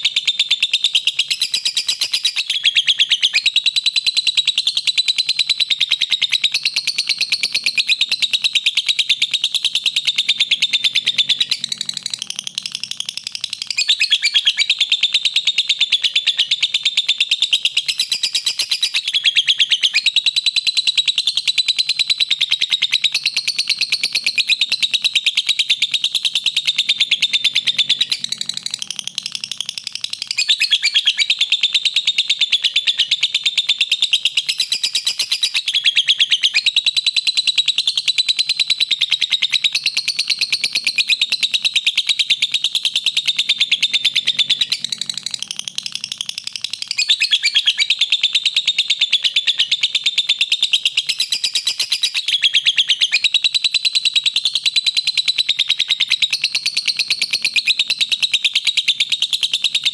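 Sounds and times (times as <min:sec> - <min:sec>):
bird chattering trill: 0:00.0 - 0:59.9.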